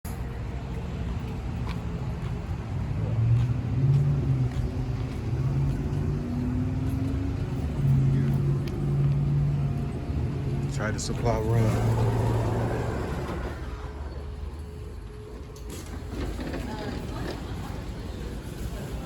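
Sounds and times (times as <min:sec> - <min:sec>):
road rumble: 0:00.0 - 0:19.0
car engine hum: 0:00.2 - 0:19.0.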